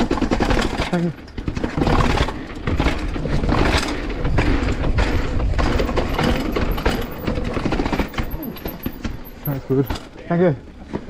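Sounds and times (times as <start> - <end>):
bike knocking over bumps: 0.0 - 10.2
bike chain rattling: 0.0 - 10.4
tyre noise on trail: 0.0 - 11.0.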